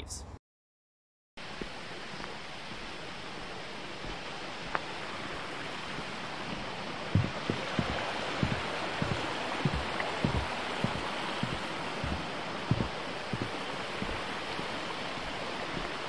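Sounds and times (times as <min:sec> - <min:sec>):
stream water rushing: 0:01.4 - 0:16.0
footsteps on wooden boardwalk: 0:01.5 - 0:16.0.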